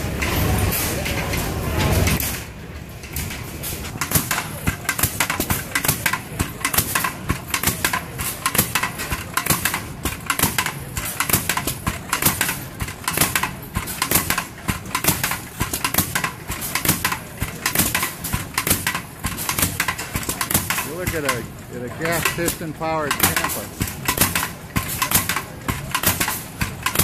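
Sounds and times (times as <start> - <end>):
rammer pounding gravel: 3.4 - 27.0.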